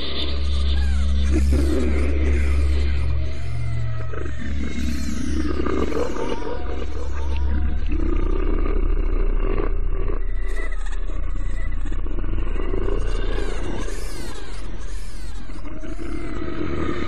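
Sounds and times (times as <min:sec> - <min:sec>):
horror soundtrack drone: 0:00.0 - 0:17.0.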